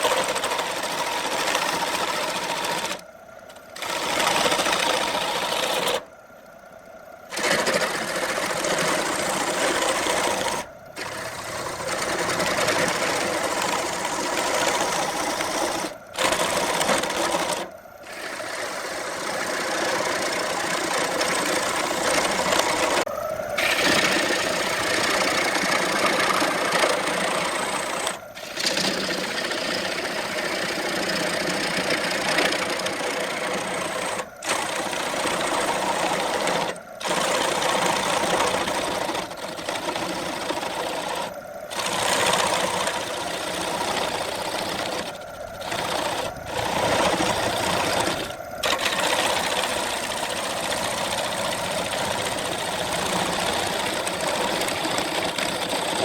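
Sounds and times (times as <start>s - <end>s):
wood lathe running: 0.0s - 6.1s, 7.3s - 56.0s.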